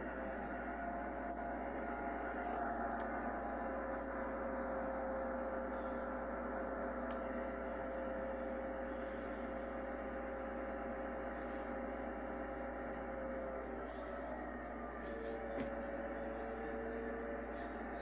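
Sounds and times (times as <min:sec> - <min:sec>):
steady hum with held tones: 0:00.0 - 0:18.0.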